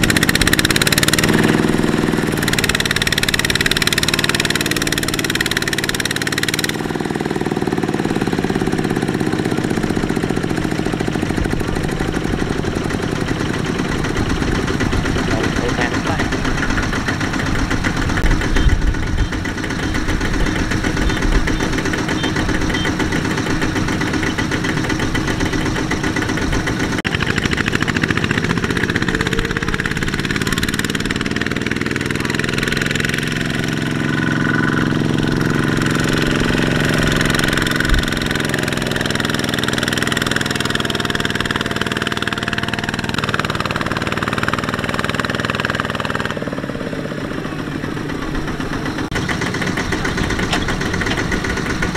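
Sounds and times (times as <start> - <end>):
diesel tiller engine running: 0.0 - 51.9.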